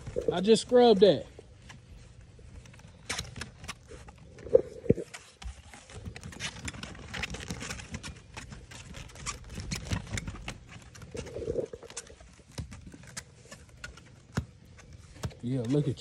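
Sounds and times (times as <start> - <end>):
puppy paws scrabbling on a mat: 0.0 - 16.0.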